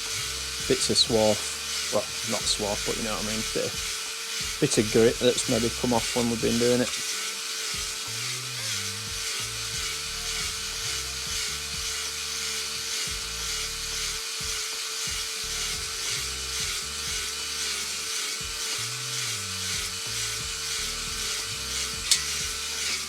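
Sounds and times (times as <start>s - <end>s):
background music with bass line: 0.0s - 23.0s
high-pitched motor buzz: 0.0s - 23.0s.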